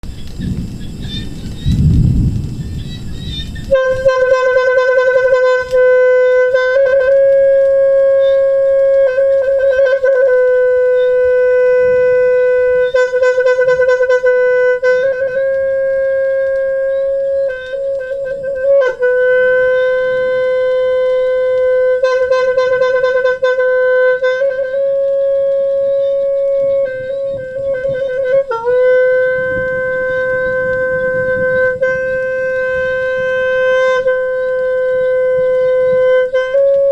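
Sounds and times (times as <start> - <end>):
horn blowing long note: 3.7 - 36.9.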